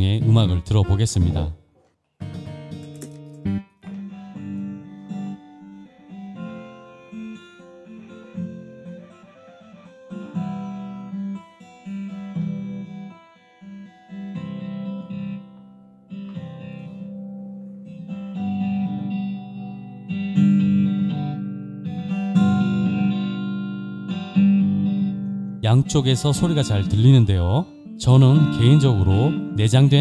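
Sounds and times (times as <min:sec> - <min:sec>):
strummed guitar music over speakers: 0:00.0 - 0:01.6, 0:02.2 - 0:30.0.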